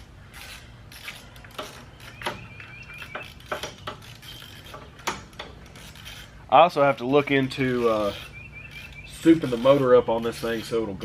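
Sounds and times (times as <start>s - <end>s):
ratchet clicks: 0.0s - 11.0s.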